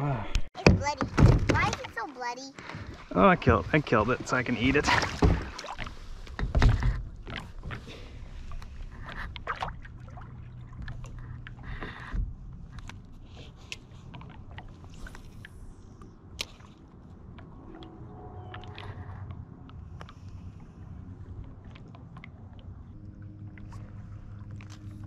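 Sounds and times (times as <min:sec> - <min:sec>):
water lapping against a paddleboard: 0:01.1 - 0:25.0.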